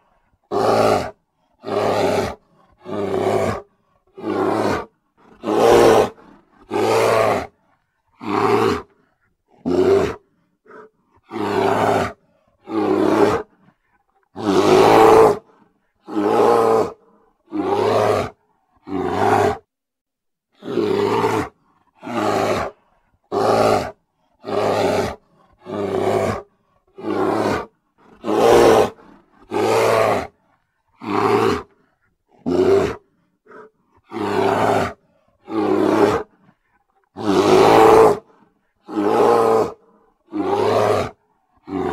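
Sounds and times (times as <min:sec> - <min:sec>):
bear roaring: 0:00.5 - 0:07.6, 0:08.2 - 0:13.6, 0:14.3 - 0:19.7, 0:20.6 - 0:30.4, 0:31.0 - 0:41.9.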